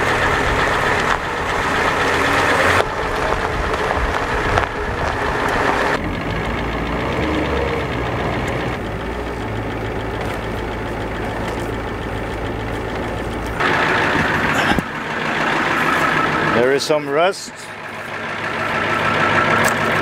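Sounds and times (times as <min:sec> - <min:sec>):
van engine running: 0:00.0 - 0:20.0.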